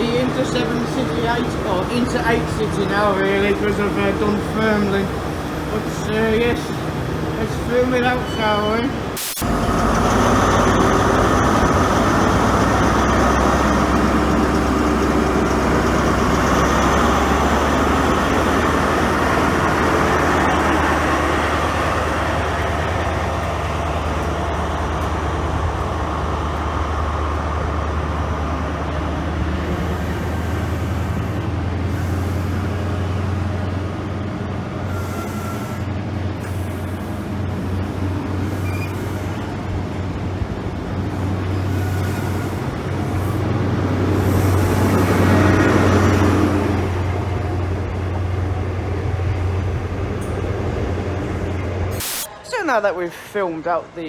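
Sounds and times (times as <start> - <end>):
diesel train engine rumbling: 0.0 - 54.0.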